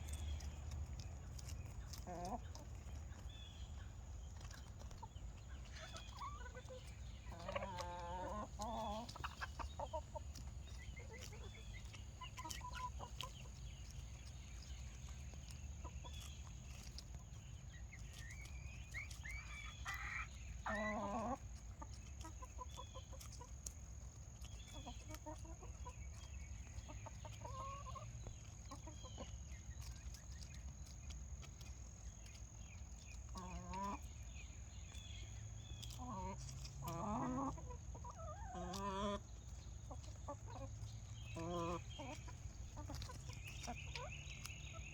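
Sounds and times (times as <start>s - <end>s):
chickens clucking and calling: 0.0s - 44.9s
steady low background hum: 0.0s - 44.9s.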